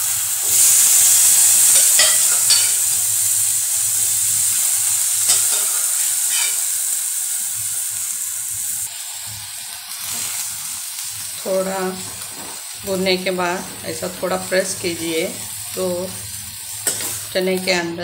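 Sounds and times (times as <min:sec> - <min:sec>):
chickpeas sizzling in hot oil: 0:00.0 - 0:18.0.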